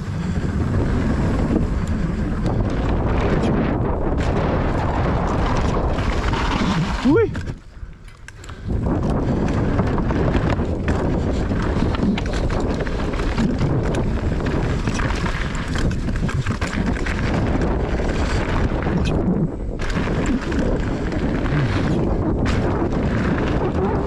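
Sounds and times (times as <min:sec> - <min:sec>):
bike clicks and rattles: 0:00.0 - 0:24.0
bike tyres on dirt: 0:00.0 - 0:24.0
wind rushing over microphone: 0:00.0 - 0:24.0.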